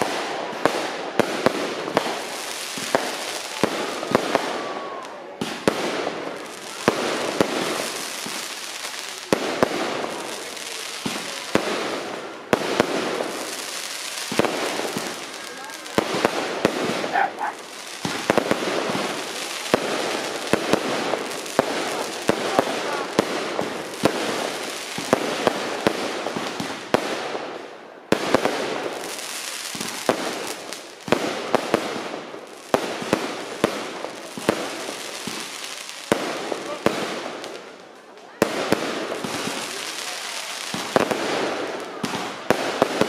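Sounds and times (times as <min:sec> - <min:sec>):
fireworks crackling and hiss: 0:00.0 - 0:43.0.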